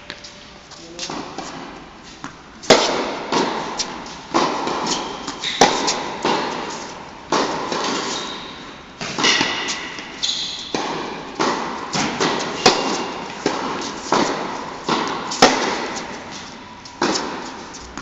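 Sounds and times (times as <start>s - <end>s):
tennis ball bouncing on court: 1.0s - 18.0s
tennis ball hit by rackets: 1.0s - 18.0s.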